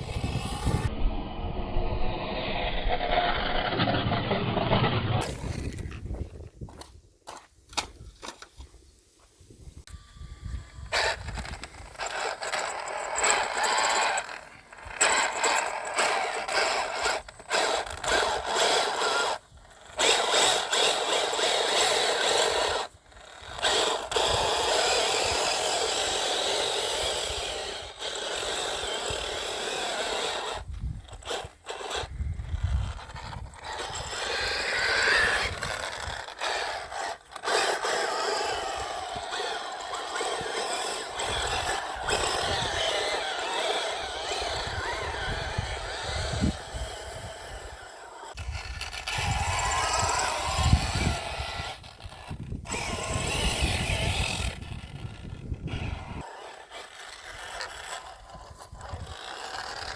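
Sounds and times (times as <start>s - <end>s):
rc truck running over dirt: 0.0s - 8.8s, 9.9s - 59.9s.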